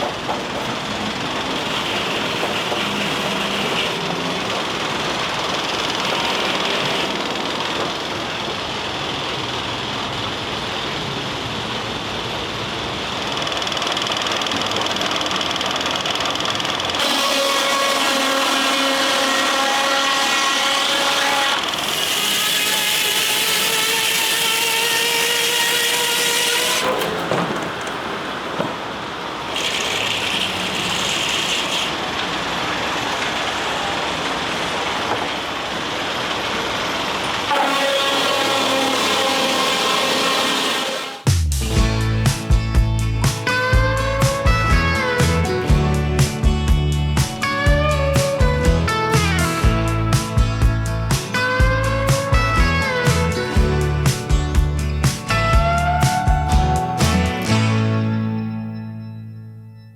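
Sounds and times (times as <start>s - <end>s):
circular saw whining through log: 0.0s - 11.2s, 12.9s - 41.4s, 47.4s - 58.4s
steam sawmill running: 0.0s - 42.6s, 43.2s - 57.9s.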